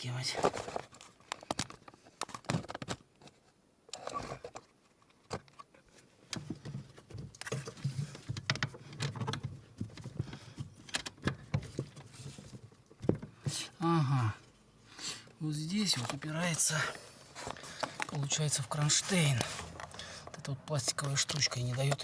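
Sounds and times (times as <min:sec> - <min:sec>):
metal and plastic clicks and scrapes: 0:00.3 - 0:13.2, 0:15.8 - 0:22.0.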